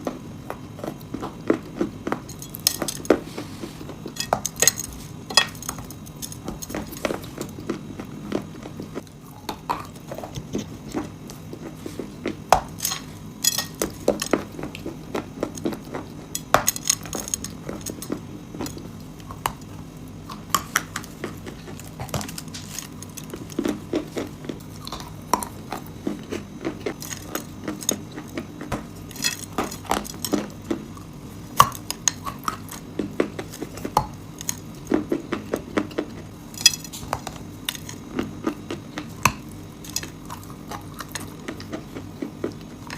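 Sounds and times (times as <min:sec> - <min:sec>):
low steady hum: 0:00.0 - 0:42.9
chalk pieces crunching and cracking: 0:00.6 - 0:42.9.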